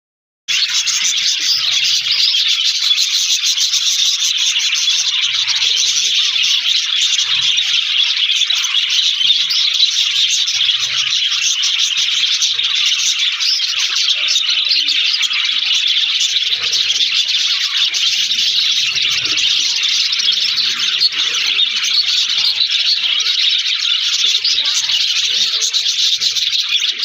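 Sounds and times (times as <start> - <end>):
budgerigars chattering: 0.5 - 27.0.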